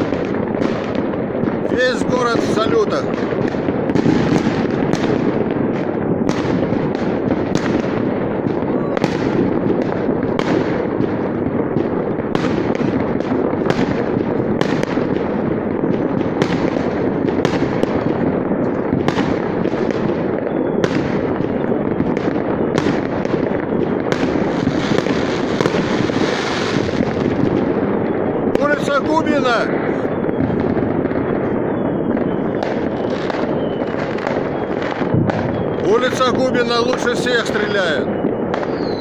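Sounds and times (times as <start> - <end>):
fireworks bursting: 0.0 - 39.0
sharp firework bangs: 0.0 - 39.0.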